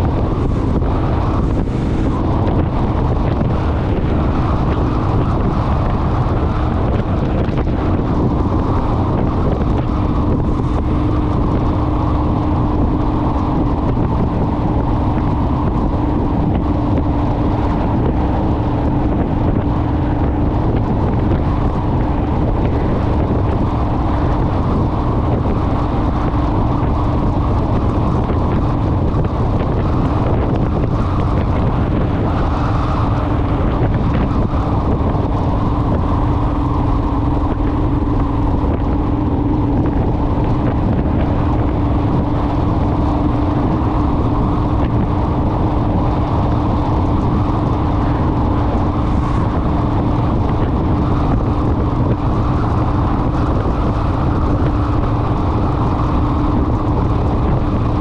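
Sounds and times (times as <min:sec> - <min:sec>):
motorcycle engine droning: 0:00.0 - 0:58.0
wind rushing on microphone: 0:00.0 - 0:58.0.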